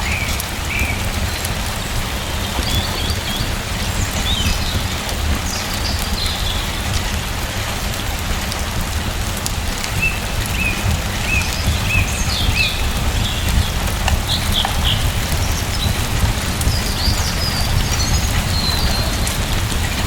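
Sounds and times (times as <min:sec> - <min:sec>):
birds chirping: 0:00.0 - 0:08.4, 0:09.7 - 0:20.0
steady rain hiss: 0:00.0 - 0:20.0.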